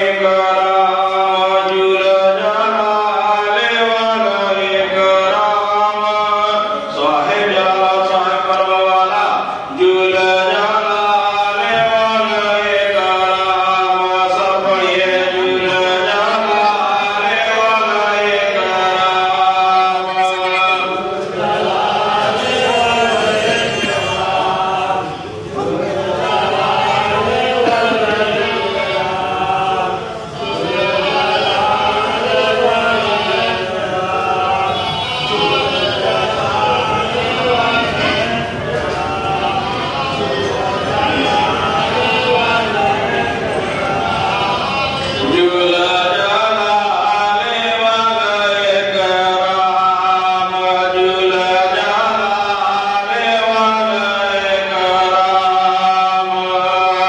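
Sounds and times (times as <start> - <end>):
man chanting: 0.0 - 57.0.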